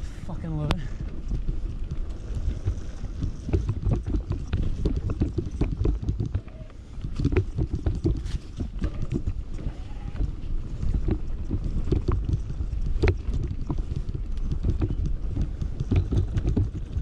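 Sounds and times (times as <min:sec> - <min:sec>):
bike clicks and rattles: 0:00.0 - 0:17.0
tyres rumbling on dirt: 0:00.0 - 0:17.0
wind buffeting microphone: 0:00.0 - 0:17.0.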